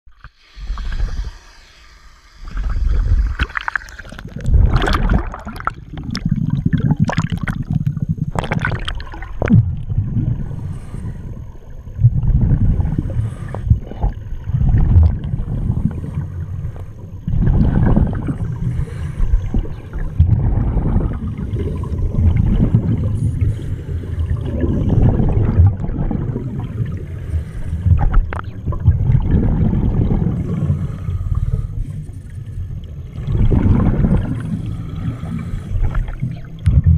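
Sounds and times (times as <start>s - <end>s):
underwater breath bubbling: 0.1s - 36.9s.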